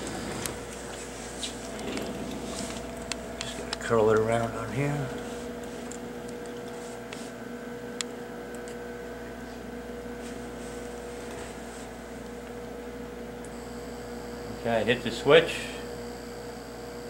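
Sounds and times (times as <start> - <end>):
power supply electrical hum: 0.0 - 17.0.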